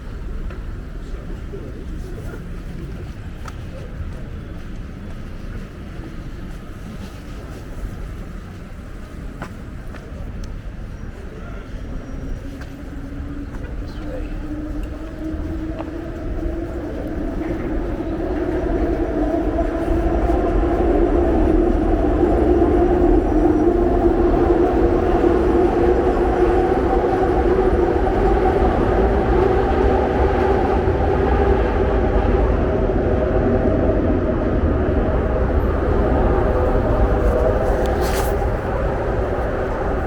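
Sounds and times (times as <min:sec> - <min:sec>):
elevated train rumbling: 0:00.0 - 0:40.0
wheels droning on rail: 0:00.0 - 0:40.0.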